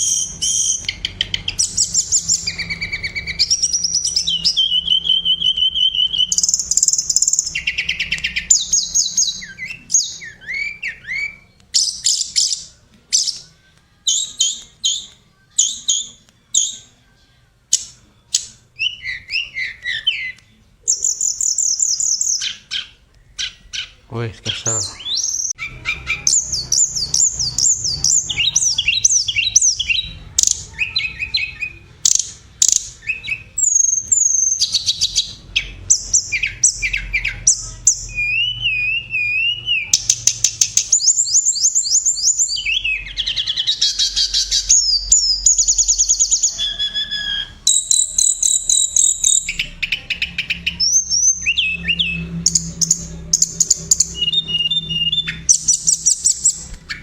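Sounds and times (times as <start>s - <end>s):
songbird singing trills and chirps: 0.0s - 57.0s.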